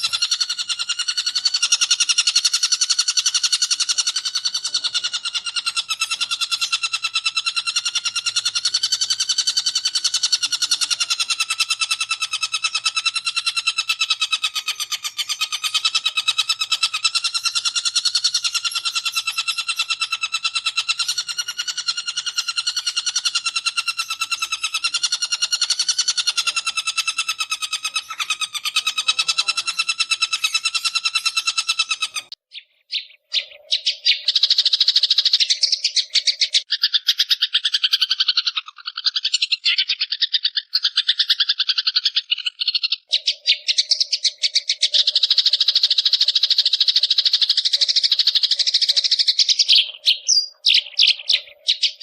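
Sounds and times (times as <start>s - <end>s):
bird harsh rapid chatter: 0.0s - 52.0s.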